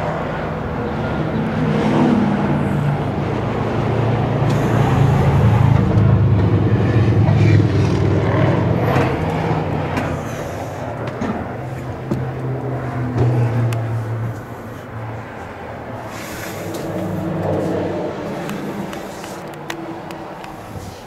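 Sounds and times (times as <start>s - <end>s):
large engine idling: 2.2s - 21.0s.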